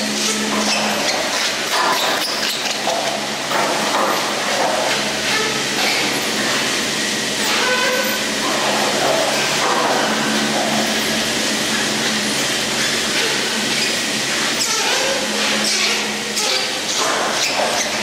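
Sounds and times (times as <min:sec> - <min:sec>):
chairlift machinery humming: 0:00.0 - 0:18.0
wheels and rope clattering: 0:00.0 - 0:18.0.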